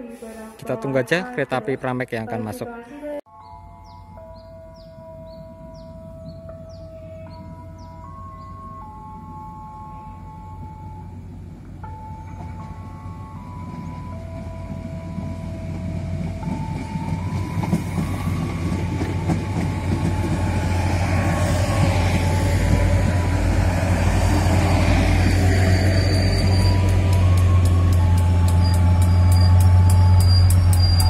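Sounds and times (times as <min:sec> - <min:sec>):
diesel train engine drone: 0:05.1 - 0:31.0.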